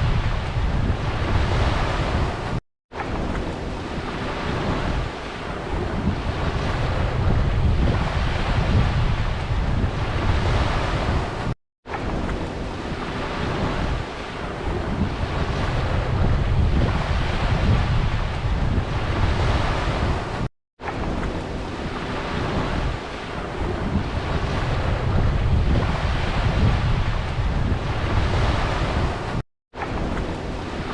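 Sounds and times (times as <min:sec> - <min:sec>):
ocean waves washing onto beach: 0:00.0 - 0:30.9
wind rumbling on microphone: 0:00.0 - 0:30.9.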